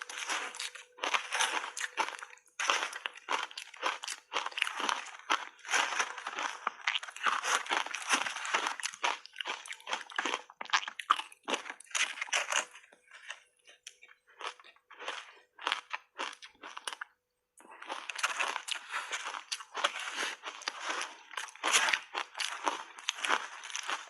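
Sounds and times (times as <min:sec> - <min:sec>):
person crunching ice: 0:00.0 - 0:13.4, 0:17.7 - 0:24.0.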